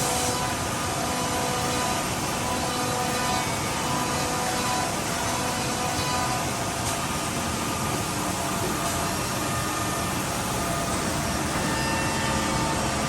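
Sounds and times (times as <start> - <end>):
cnc machine running: 0.0 - 13.0
faint machine whine: 0.0 - 13.0.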